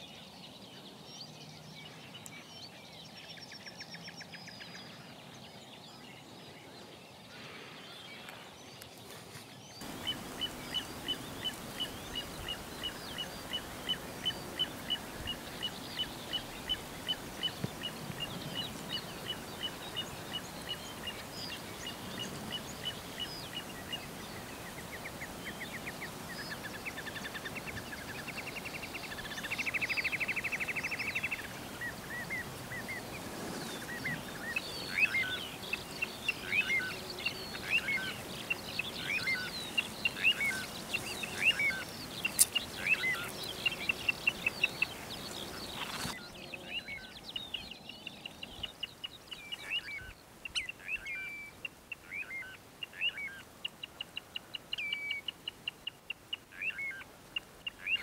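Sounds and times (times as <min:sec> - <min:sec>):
wild birds calling: 0:06.4 - 0:55.4.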